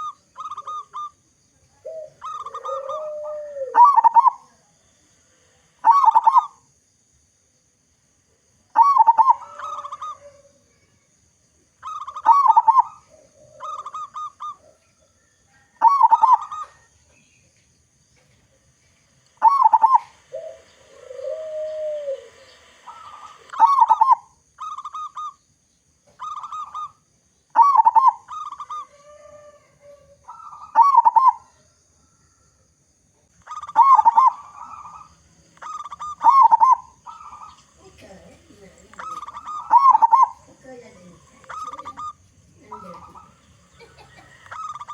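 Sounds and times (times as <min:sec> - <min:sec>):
dove cooing: 0:00.0 - 0:04.6, 0:05.8 - 0:06.6, 0:08.8 - 0:11.0, 0:11.8 - 0:17.3, 0:19.4 - 0:25.4, 0:26.0 - 0:27.0, 0:27.6 - 0:32.4, 0:33.4 - 0:44.9.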